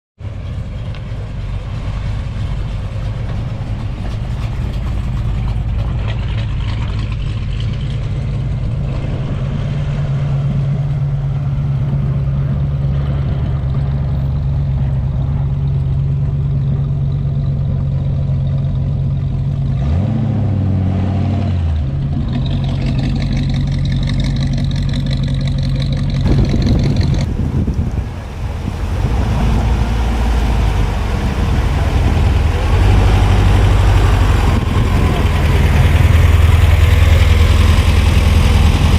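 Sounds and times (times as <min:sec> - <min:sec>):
car engine humming: 0:00.2 - 0:38.9.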